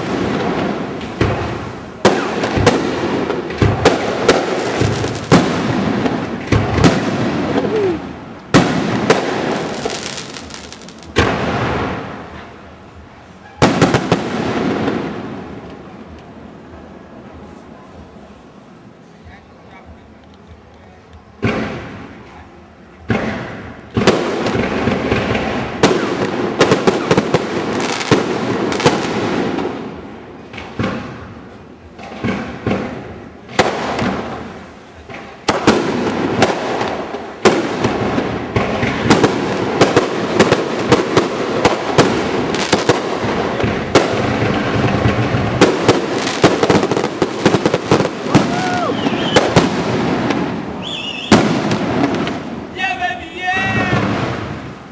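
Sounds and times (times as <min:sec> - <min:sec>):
fireworks bursts and crackling: 0:00.0 - 0:17.5, 0:20.2 - 0:54.9.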